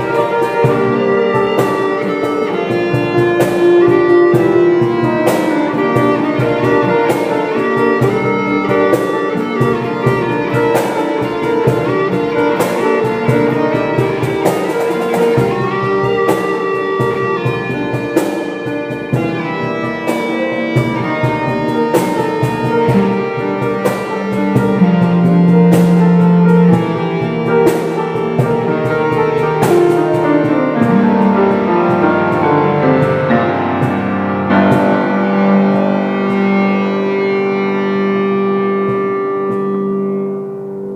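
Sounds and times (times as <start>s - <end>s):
steady drum beat: 0.0s - 36.7s
guitar: 0.0s - 40.9s
piano: 0.0s - 40.9s.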